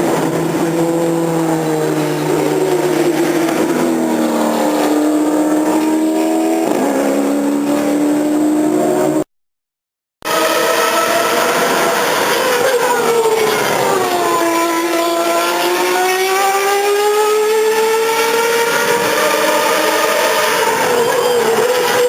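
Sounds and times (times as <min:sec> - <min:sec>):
racing car engine at high revs: 0:00.0 - 0:09.3, 0:10.2 - 0:22.0.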